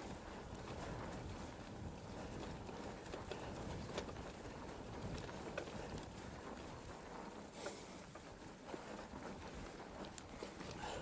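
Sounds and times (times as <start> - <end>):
bike clicking and rattling: 0.0 - 11.0
bike tyres rumbling on dirt: 0.0 - 11.0.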